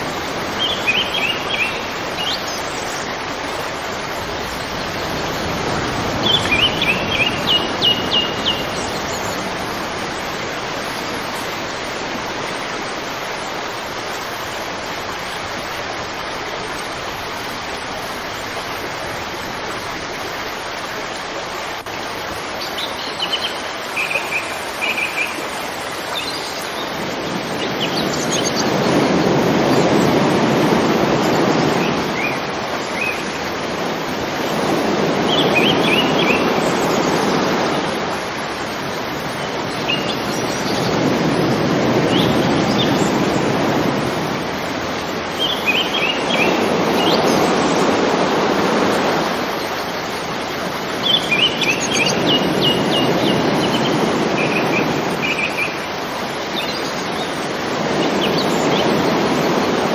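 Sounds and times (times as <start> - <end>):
flowing river water: 0.0 - 59.9.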